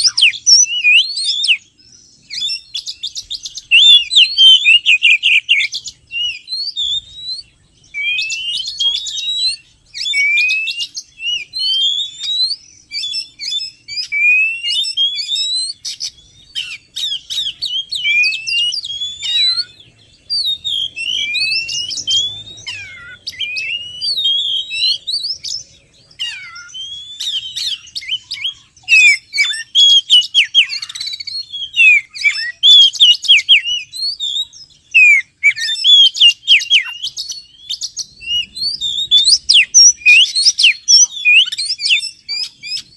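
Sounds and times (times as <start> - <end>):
bird singing whistled phrases: 0.0 - 42.9.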